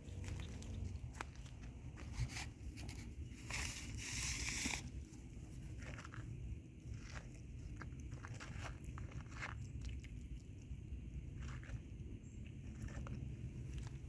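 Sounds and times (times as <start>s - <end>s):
cats crunching dry kibble: 0.0s - 14.0s.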